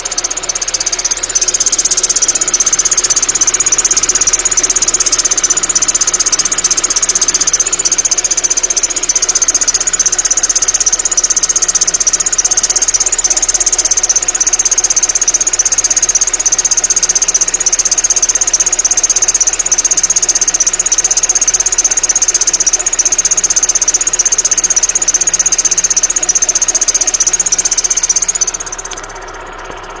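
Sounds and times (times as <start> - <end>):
car engine running: 0.0 - 30.0
high-pitched drive-belt whistle: 0.0 - 30.0.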